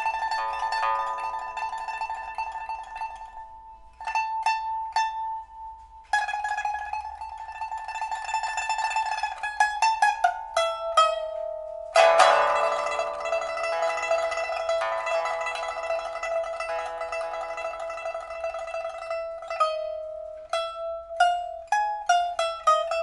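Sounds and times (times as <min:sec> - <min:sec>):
pipa single plucked notes: 0:00.0 - 0:23.0
pipa tremolo: 0:00.0 - 0:23.0.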